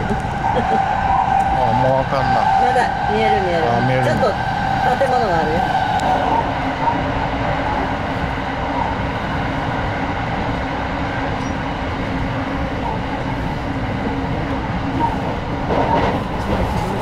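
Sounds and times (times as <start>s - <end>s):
moving train rumble: 0.0s - 17.0s.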